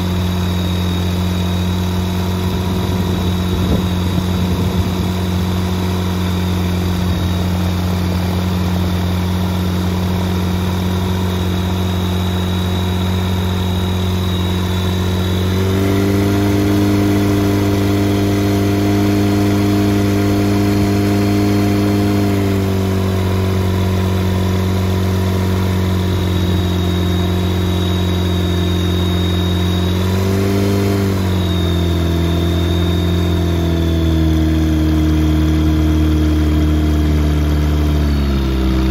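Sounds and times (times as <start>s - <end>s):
aircraft engine and propeller: 0.0s - 38.9s.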